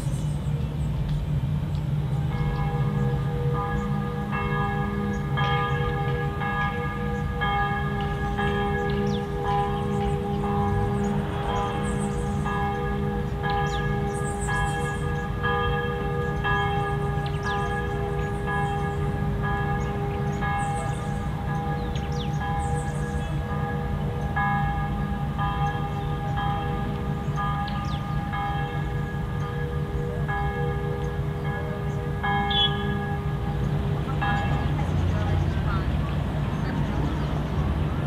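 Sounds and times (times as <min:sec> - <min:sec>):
church bells ringing: 0:00.0 - 0:38.0.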